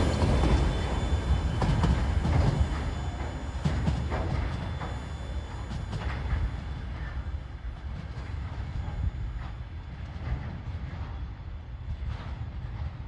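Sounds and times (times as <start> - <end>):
freight train rumbling: 0.0 - 13.0
train wheel clacks: 0.0 - 13.0.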